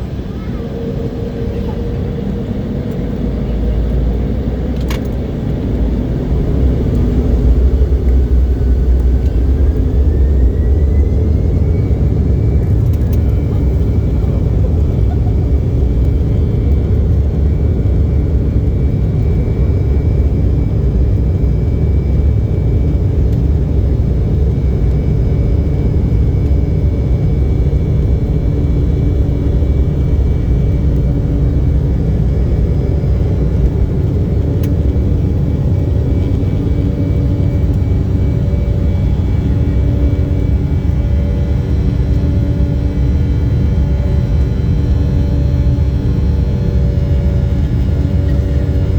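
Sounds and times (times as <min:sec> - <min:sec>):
airplane cabin engine rumble: 0:00.0 - 0:48.9
faint steady engine tones: 0:00.0 - 0:48.9.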